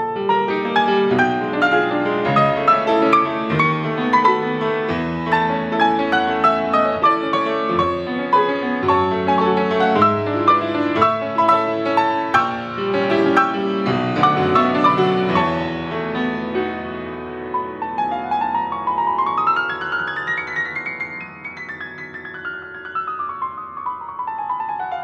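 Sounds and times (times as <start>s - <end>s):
solo grand piano: 0.0s - 25.0s.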